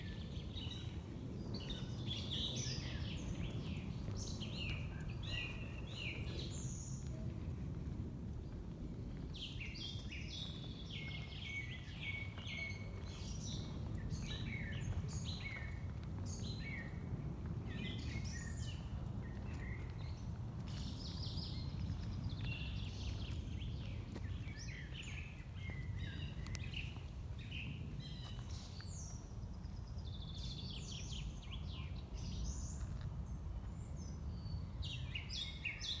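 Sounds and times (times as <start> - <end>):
songbirds singing: 0.0 - 7.2, 9.2 - 36.0.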